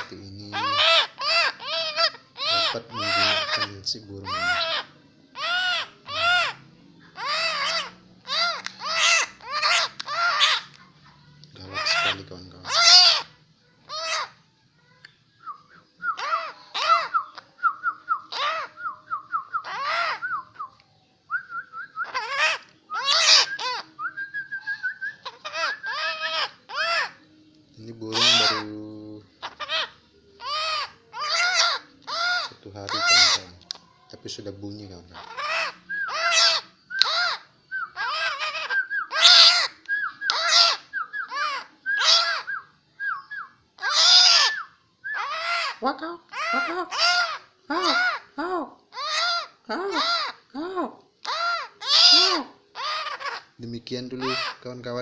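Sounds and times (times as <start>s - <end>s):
bird harsh loud calls: 0.0s - 10.7s, 11.6s - 14.4s, 16.0s - 17.5s, 18.2s - 18.9s, 19.5s - 20.4s, 22.0s - 24.0s, 24.9s - 27.3s, 28.1s - 33.5s, 35.1s - 50.6s, 51.2s - 54.7s.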